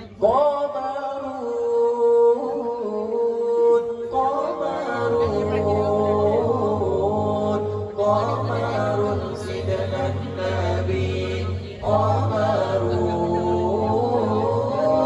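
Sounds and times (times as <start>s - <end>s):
low bass voice singing: 0.0s - 15.0s
male a cappella group singing: 0.0s - 15.0s.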